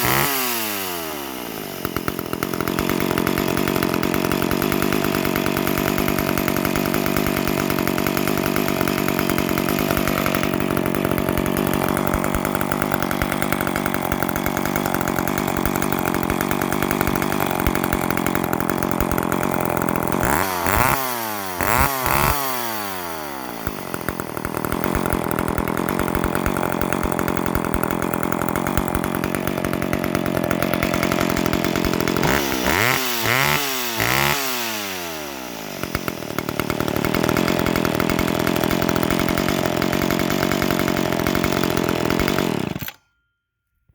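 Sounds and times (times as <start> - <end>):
chainsaw engine revving: 0.0 - 43.0.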